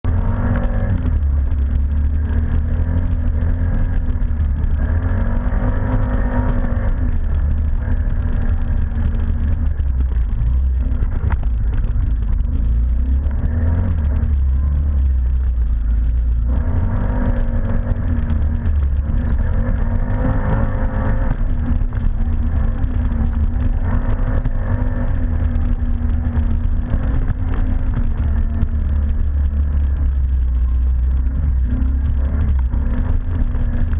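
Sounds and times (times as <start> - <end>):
engine rumbling and revving: 0.0 - 33.9.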